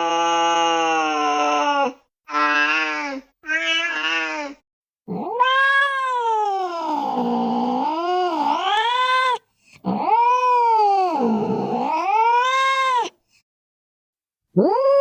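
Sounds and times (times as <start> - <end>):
cat yowling: 0.0 - 4.3, 5.1 - 13.2, 14.5 - 15.0.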